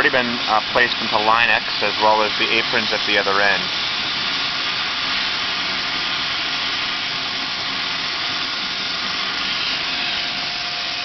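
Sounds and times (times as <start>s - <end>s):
spray gun hissing: 0.1s - 11.0s.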